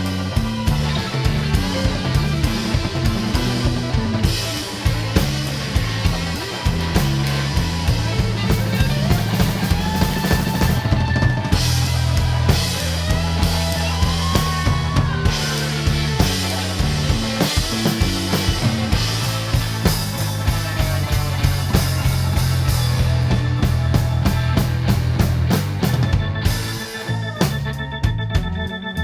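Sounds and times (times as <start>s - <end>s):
blues-rock band playing: 0.0s - 29.0s
sustained bass line: 0.0s - 29.0s.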